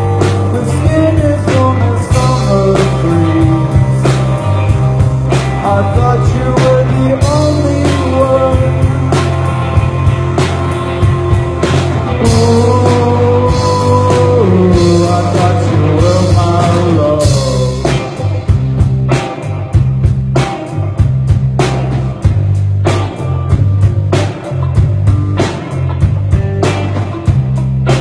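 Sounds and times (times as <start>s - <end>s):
rock band playing live: 0.0s - 28.0s.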